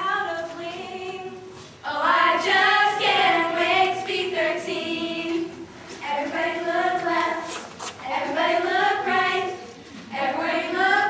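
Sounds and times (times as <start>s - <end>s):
girls singing a cappella: 0.0s - 11.0s.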